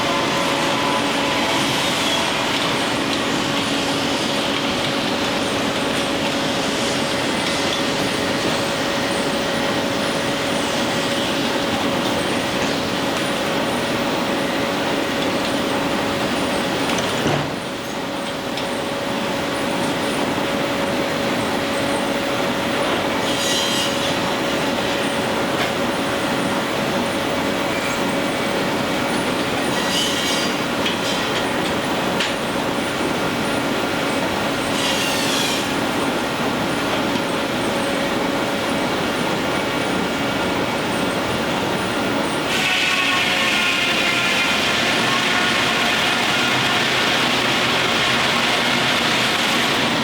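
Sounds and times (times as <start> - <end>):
sawmill machinery humming: 0.0 - 50.0.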